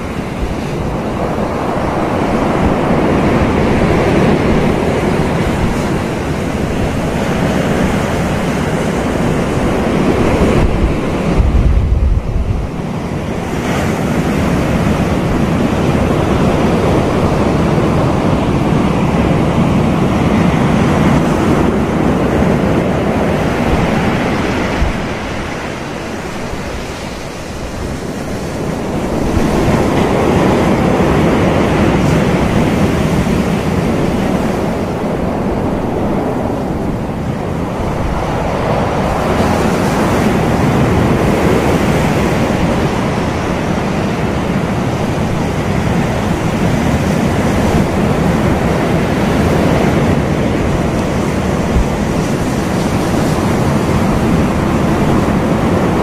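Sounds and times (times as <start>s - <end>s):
ocean surf breaking on beach: 0.0s - 56.0s
wind buffeting microphone: 0.0s - 56.0s.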